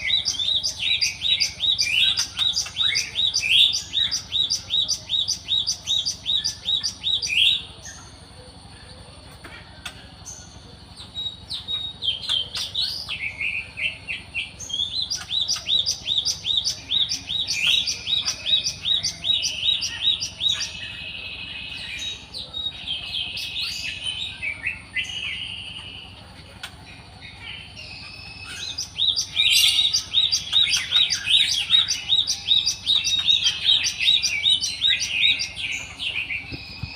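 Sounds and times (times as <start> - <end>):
songbird chirping: 0.0 - 36.9.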